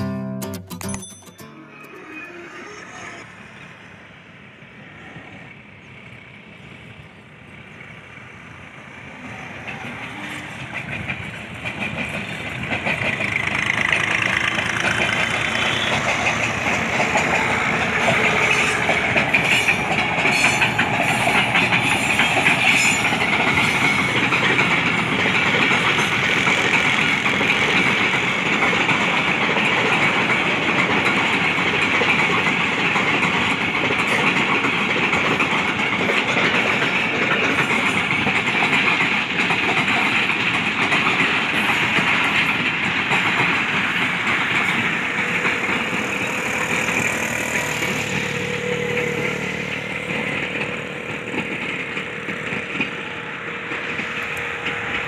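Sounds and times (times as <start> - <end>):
diesel locomotive passing: 1.4 - 55.0
train wheels rumbling on rails: 2.0 - 55.0
wheels clicking over rail joints: 8.4 - 55.0.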